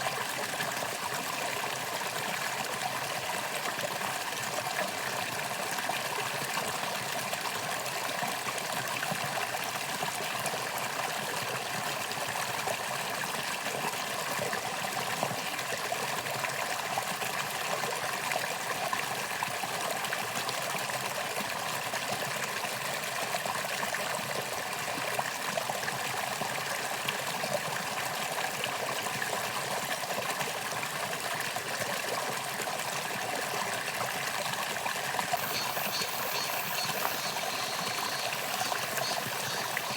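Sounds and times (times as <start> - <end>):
stream flowing over rocks: 0.0 - 39.9
water splashes and trickles: 0.0 - 39.9.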